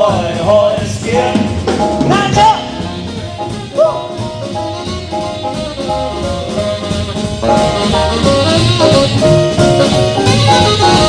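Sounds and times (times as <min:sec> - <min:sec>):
swing band playing: 0:00.0 - 0:11.0
horns playing riff: 0:01.1 - 0:11.0.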